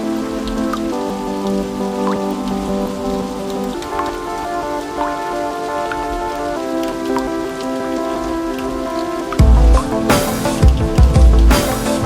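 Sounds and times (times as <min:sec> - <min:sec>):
soft lofi music chords: 0:00.0 - 0:12.0
steady rain: 0:00.0 - 0:12.0.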